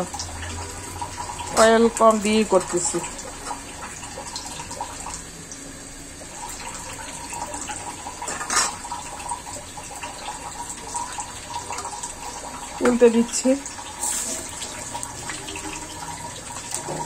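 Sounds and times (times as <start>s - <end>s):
fritters sizzling in oil: 0.0s - 17.0s.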